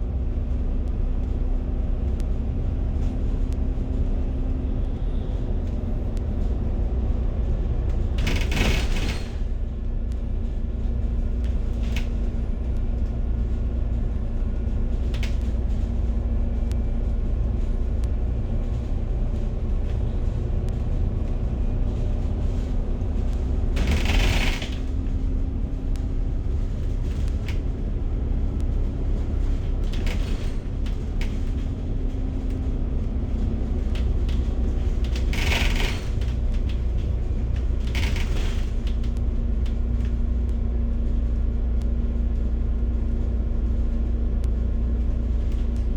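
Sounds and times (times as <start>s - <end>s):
bus engine and road rumble: 0.0s - 45.9s
constant hum: 0.0s - 45.9s.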